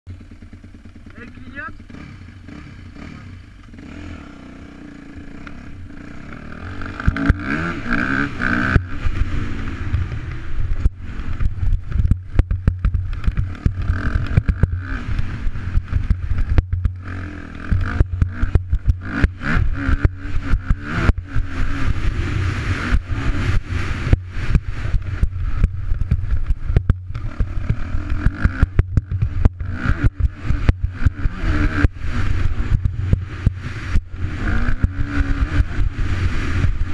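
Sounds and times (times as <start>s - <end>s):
dirt bike engine revving: 0.1s - 36.9s.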